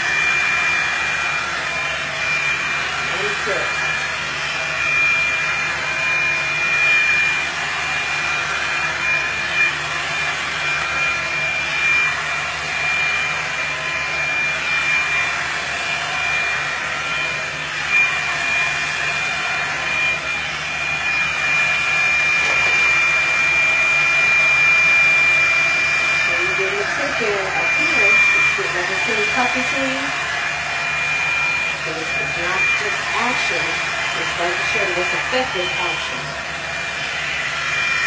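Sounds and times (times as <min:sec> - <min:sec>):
blow dryer blowing air: 0:00.0 - 0:38.0
high motor whine: 0:00.0 - 0:38.0.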